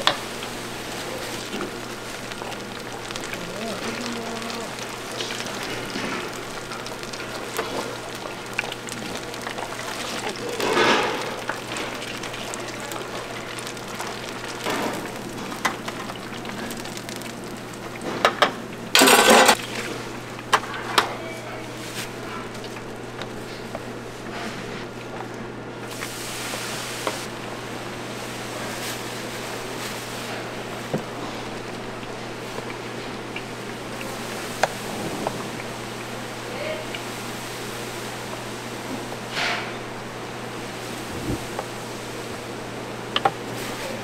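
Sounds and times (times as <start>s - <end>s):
deep-fryer oil sizzling: 0.0s - 44.0s.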